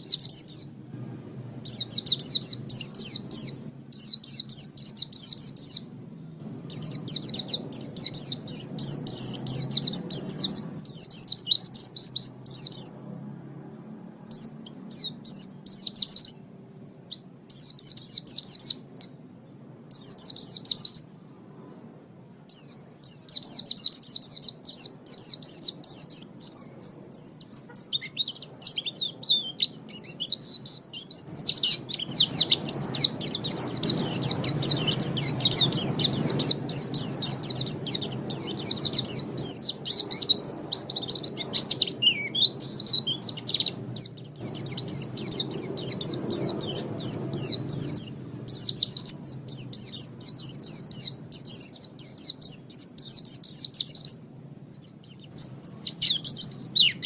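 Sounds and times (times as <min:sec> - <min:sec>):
bird twittering song: 0:00.0 - 0:57.0
low background rumble: 0:00.0 - 0:57.0.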